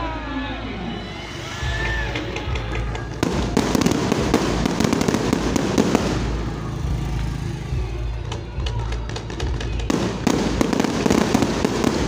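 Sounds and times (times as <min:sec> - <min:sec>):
fireworks crackling and popping: 0:01.2 - 0:07.4, 0:08.0 - 0:12.0.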